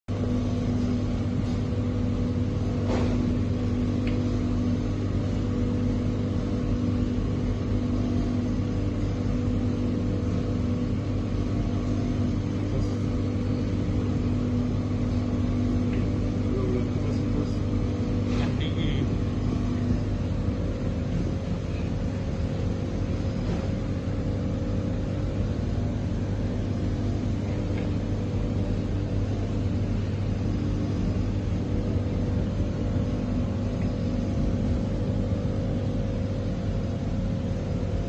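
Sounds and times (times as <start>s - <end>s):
kitchen machinery humming: 0.1s - 38.0s.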